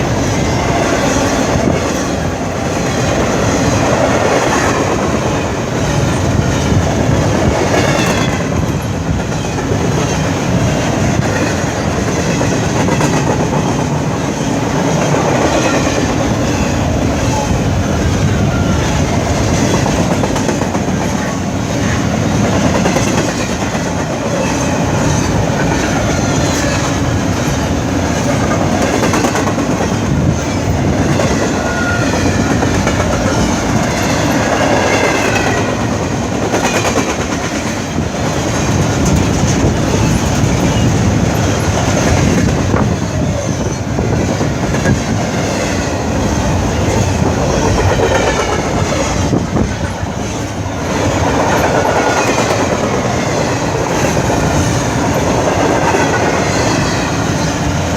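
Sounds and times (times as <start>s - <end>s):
train wheels clacking over rail joints: 0.0s - 17.5s, 18.8s - 57.7s.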